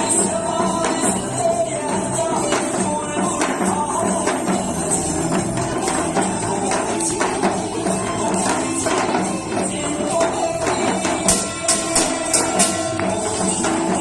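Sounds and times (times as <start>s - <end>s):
hourglass drums struck rhythmically: 0.0s - 14.0s
trot song music track: 0.0s - 14.0s.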